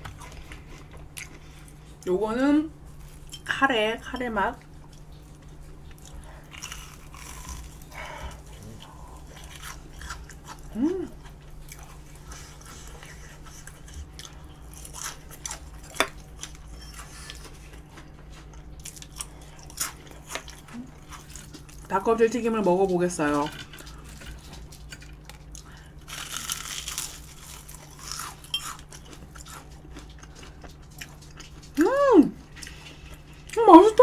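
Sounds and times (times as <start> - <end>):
crunchy food being chewed: 0.0 - 2.1, 4.6 - 21.9, 23.6 - 31.8.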